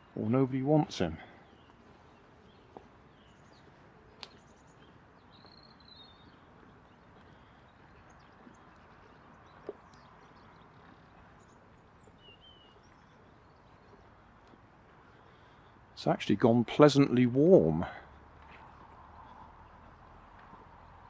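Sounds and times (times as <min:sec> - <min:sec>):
distant bird chirps: 0:00.0 - 0:21.0
faint outdoor ambience: 0:00.0 - 0:21.0.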